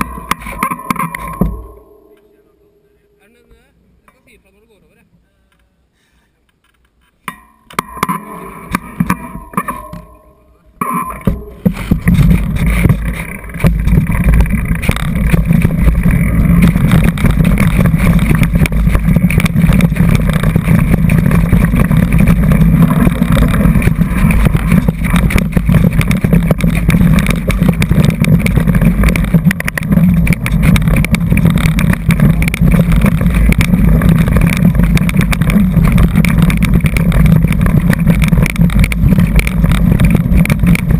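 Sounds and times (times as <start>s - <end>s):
bike rattling and knocking: 0.0s - 3.6s, 7.3s - 40.9s.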